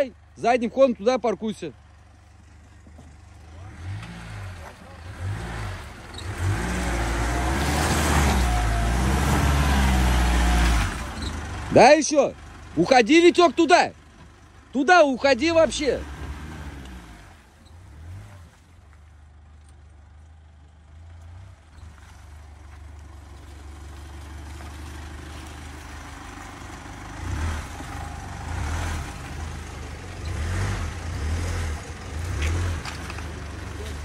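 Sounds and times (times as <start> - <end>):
engine running low: 0.0 - 34.0.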